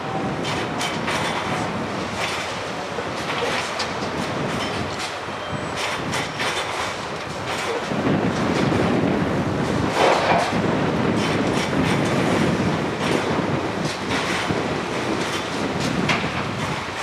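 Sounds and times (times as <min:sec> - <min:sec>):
track-laying machine clanking: 0:00.0 - 0:17.0.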